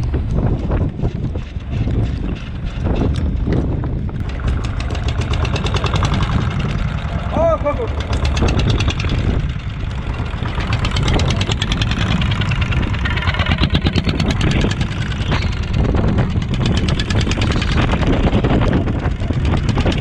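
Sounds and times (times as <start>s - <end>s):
boat engine running: 0.0s - 20.0s
wind: 0.0s - 20.0s.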